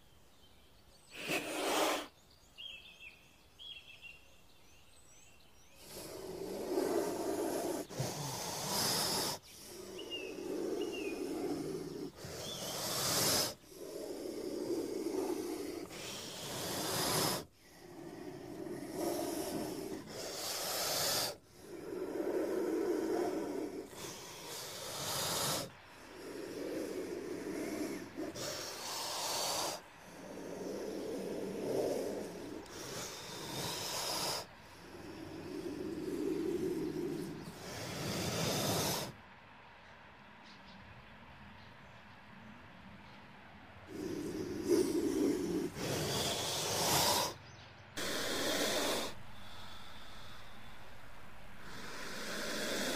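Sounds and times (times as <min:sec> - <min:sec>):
low breathy sound: 0:00.0 - 0:39.6, 0:42.8 - 0:52.9
snake hissing: 0:01.1 - 0:02.2, 0:05.7 - 0:39.2, 0:43.9 - 0:52.9.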